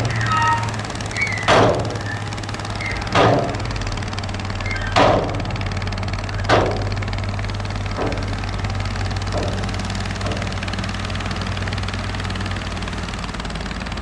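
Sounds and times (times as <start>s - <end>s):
sharp metallic knocks: 0.0s - 12.0s
heavy machine engine running: 0.0s - 14.0s.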